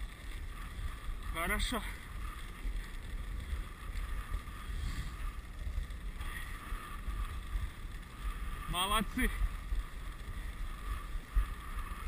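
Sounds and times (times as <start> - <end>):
sled gliding over snow: 0.0 - 12.0
wind buffeting microphone: 0.0 - 12.0.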